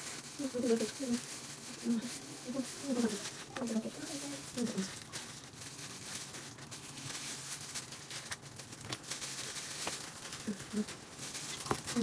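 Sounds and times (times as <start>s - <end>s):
gloved hands rustling through hair: 0.0s - 12.0s.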